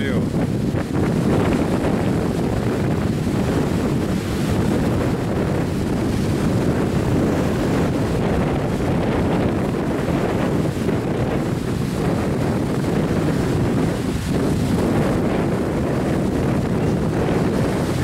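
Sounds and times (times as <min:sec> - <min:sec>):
choppy sea washing: 0:00.0 - 0:18.0
strong wind buffeting microphone: 0:00.0 - 0:18.0.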